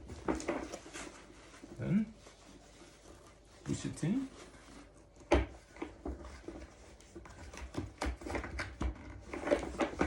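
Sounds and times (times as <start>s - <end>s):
light knocks and rustles: 0.0s - 10.0s.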